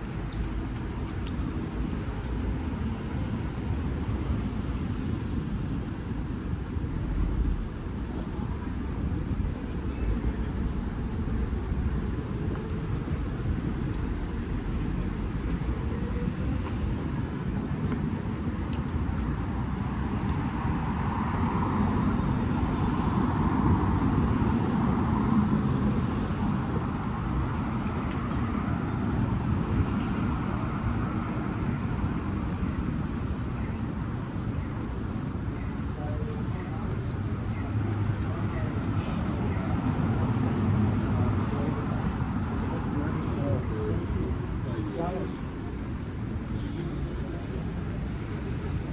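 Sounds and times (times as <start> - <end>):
road traffic noise: 0.0 - 48.9.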